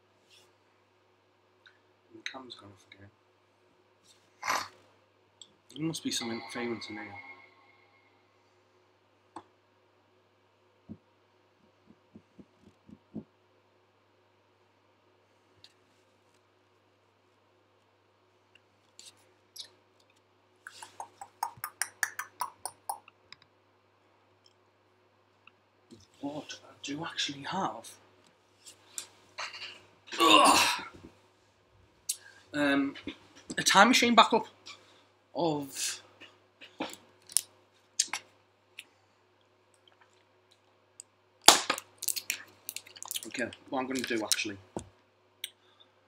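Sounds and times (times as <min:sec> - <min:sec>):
faint electrical hum: 0:00.0 - 0:46.0.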